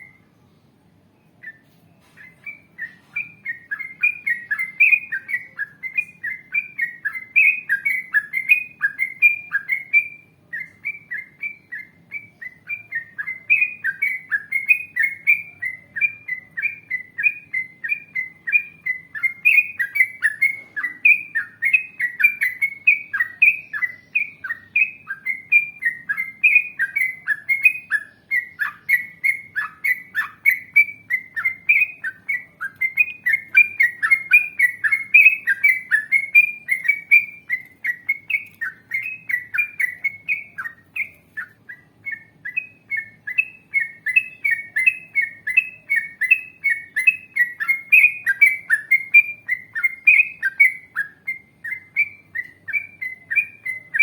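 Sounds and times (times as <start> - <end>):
bird singing bubbly chirps: 0.0 - 0.3, 1.2 - 54.0.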